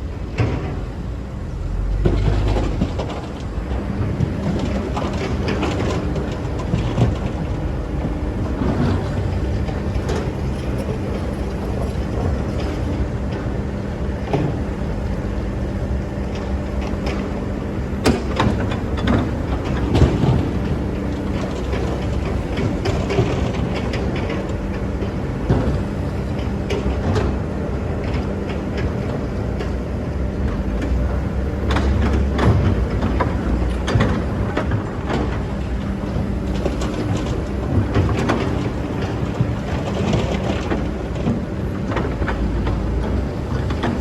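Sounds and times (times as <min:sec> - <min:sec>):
excavator engine running: 0:00.0 - 0:44.0
excavator knocks and clanks: 0:00.0 - 0:44.0.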